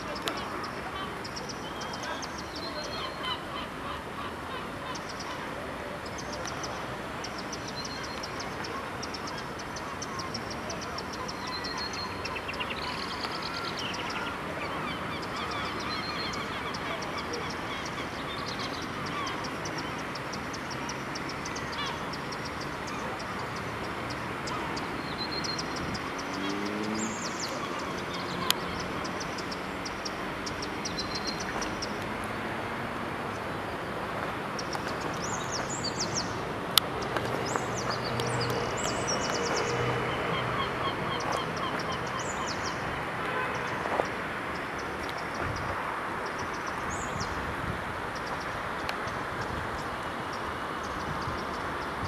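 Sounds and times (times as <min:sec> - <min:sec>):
small birds chirping: 0:00.0 - 0:32.2, 0:33.3 - 0:42.9.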